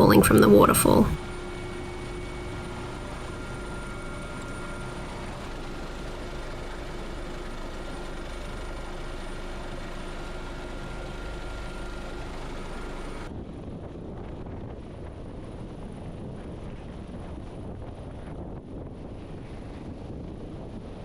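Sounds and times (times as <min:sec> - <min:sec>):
helicopter engine and rotor: 0:00.0 - 0:21.0.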